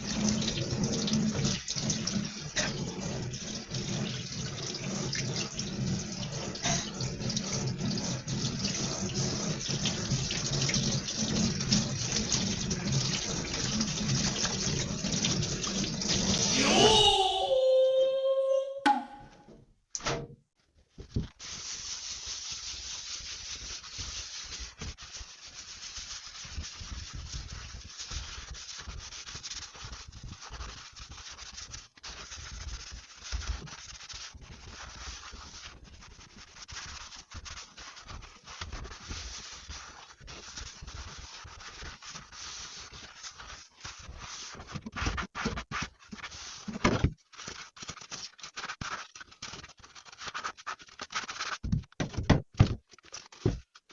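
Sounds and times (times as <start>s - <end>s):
sponge scrubbing: 0.0s - 18.5s, 21.0s - 51.7s.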